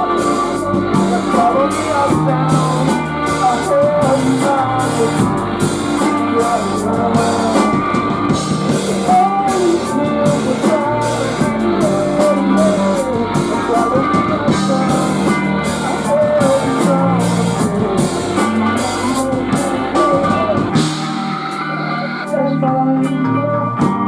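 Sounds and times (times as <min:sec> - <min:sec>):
distorted electric guitars: 0:00.0 - 0:24.0
drum kit: 0:00.0 - 0:24.0.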